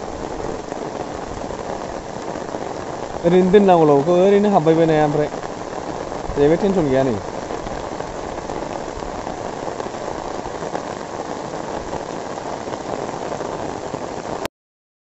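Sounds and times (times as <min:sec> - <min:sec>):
rain on water and umbrella: 0:00.0 - 0:14.5.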